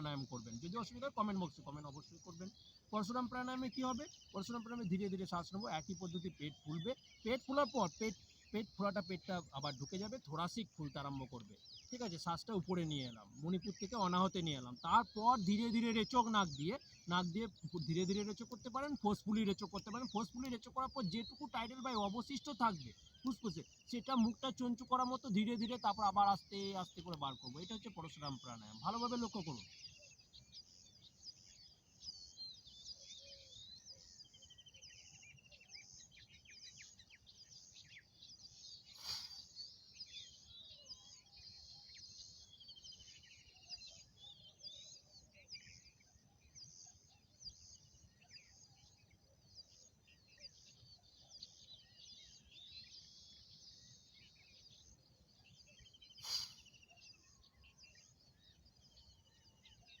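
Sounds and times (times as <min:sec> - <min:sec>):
small birds chirping: 0:00.0 - 1:00.0.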